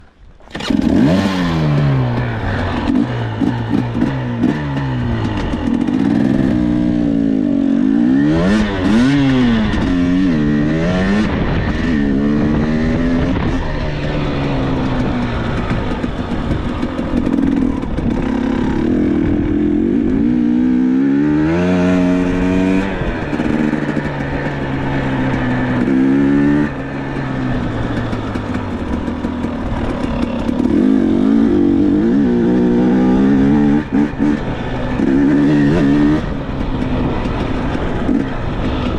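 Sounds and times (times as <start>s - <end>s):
dirt bike engine revving: 0.4s - 38.9s.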